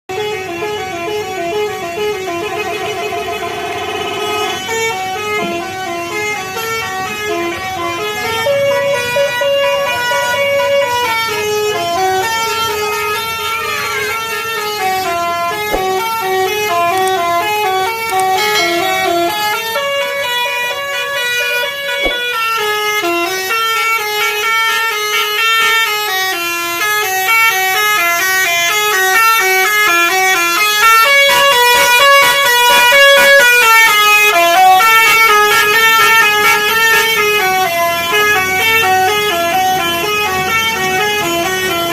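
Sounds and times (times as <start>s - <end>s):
multi-tone bus horn tune: 0.1s - 41.9s.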